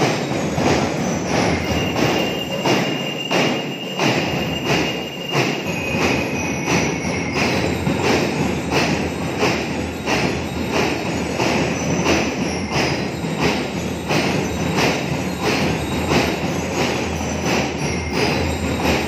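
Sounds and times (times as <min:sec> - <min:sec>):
drum and lyre corps playing march: 0:00.0 - 0:19.0
high steady tone: 0:00.0 - 0:19.0
snare and bass drums beating: 0:00.0 - 0:19.0.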